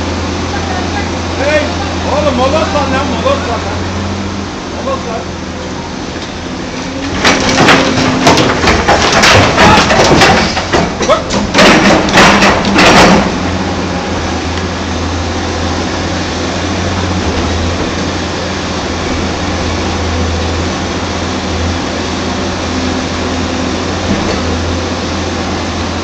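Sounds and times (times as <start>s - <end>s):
excavator diesel engine humming: 0.0s - 26.0s.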